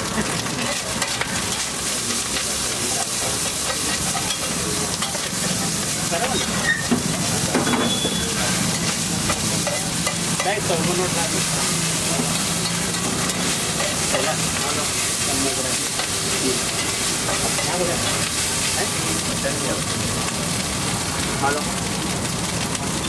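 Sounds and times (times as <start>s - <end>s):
food sizzling on griddles: 0.0s - 23.0s.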